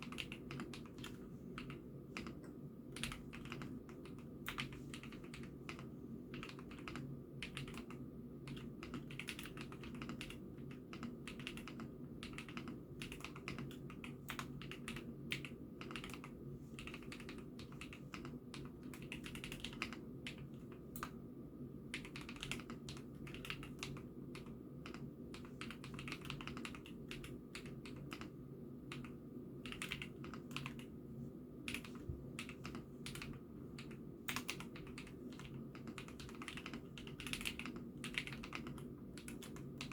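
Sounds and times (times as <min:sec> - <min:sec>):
mechanical keyboard typing: 0:00.0 - 0:21.2, 0:21.9 - 0:30.9, 0:31.7 - 0:39.9
low background hum: 0:00.0 - 0:39.9.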